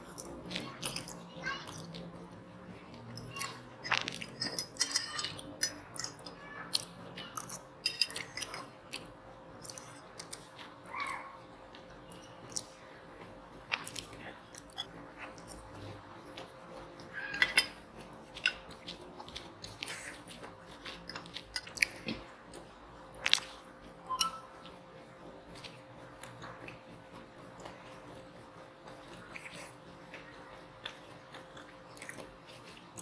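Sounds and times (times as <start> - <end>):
person chewing: 0.0 - 33.0.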